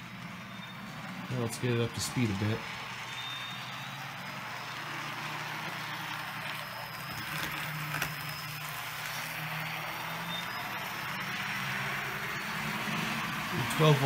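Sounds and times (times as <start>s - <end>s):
model train motor hum: 0.0s - 14.0s.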